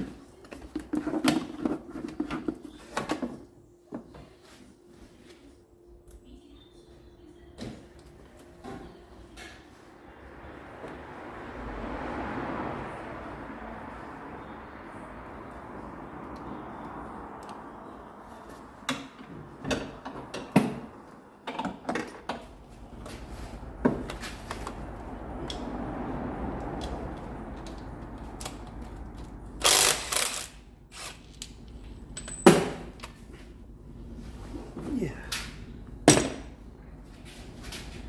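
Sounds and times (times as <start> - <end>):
steady background noise: 0.0 - 38.0.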